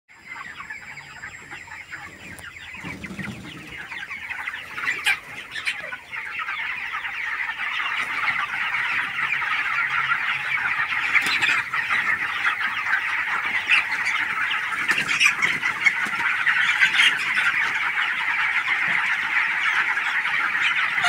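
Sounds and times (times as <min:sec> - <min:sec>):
chickens peeping and clucking: 0:00.1 - 0:21.0.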